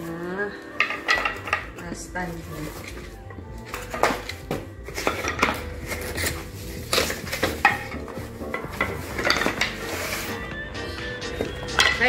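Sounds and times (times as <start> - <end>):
paper wrapping rustling: 0.0 - 10.4
bamboo sticks clacking: 0.6 - 10.4, 11.3 - 12.0.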